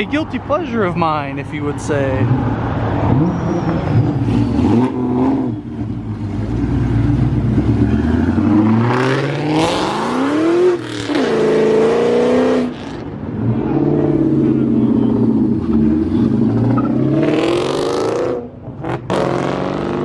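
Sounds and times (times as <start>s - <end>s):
car engine accelerating hard: 2.2s - 20.0s.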